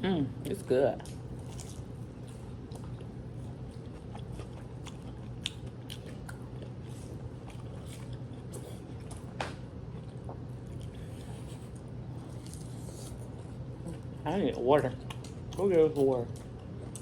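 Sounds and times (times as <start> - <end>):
steady low hum: 0.0 - 17.0
person chewing crunchy food: 0.4 - 14.2, 15.0 - 17.0.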